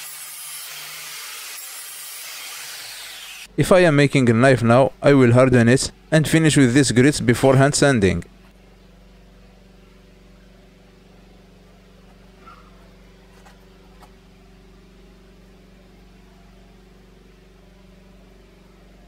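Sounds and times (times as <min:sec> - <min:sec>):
steady low hum: 0:03.2 - 0:19.0.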